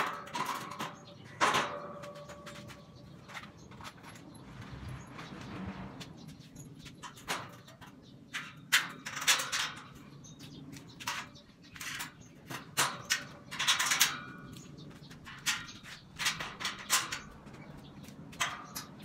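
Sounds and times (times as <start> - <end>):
metal scraping rattles: 0.0 - 19.0.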